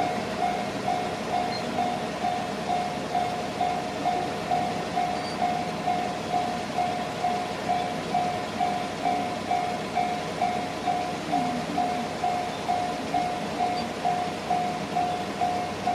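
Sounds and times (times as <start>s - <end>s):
level crossing warning bell: 0.0s - 15.9s.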